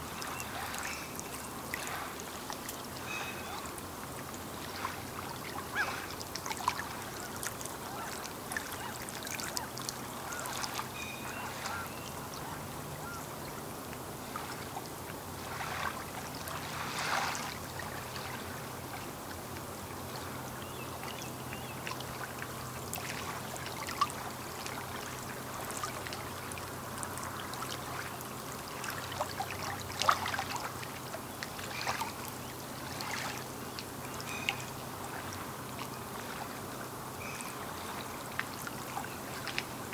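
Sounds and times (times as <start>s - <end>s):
water sloshing: 0.0s - 21.2s, 21.8s - 39.9s
small waves lapping on shore: 0.0s - 39.9s.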